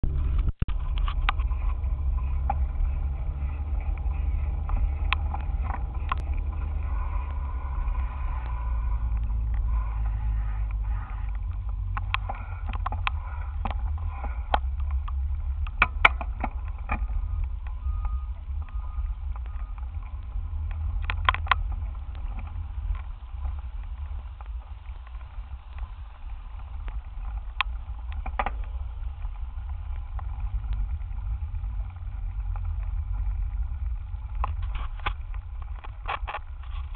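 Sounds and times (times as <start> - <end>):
wind and road rumble on microphone: 0.0 - 36.9
bike clicks and rattles: 0.2 - 36.9.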